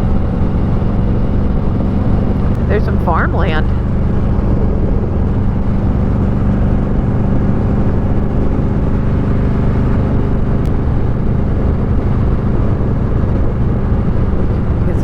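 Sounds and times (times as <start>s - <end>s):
motorcycle engine cruising: 0.0s - 15.0s
road noise: 0.0s - 15.0s
wind noise: 0.0s - 15.0s.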